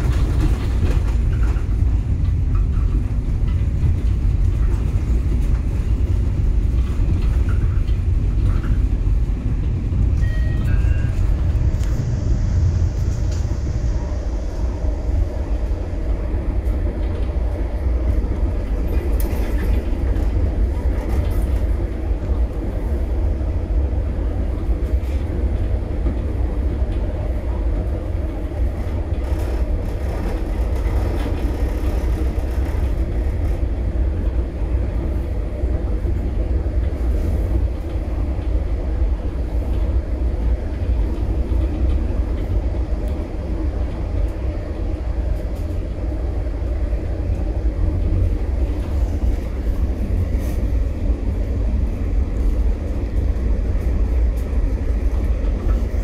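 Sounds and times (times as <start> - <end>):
vehicle rumble: 0.0 - 56.0.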